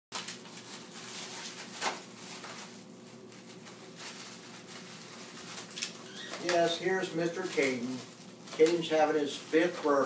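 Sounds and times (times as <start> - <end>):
wrapping paper crinkling: 0.1 - 10.0.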